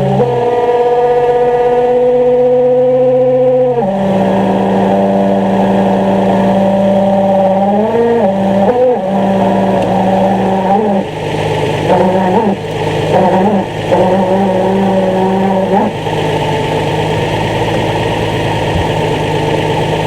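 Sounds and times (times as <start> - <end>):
car engine running: 0.0 - 20.0
clutch squealing whine: 0.0 - 20.0.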